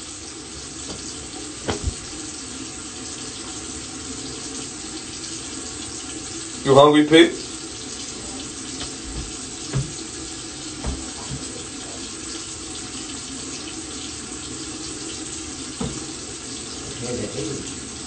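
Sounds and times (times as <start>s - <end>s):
water running: 0.0s - 18.0s.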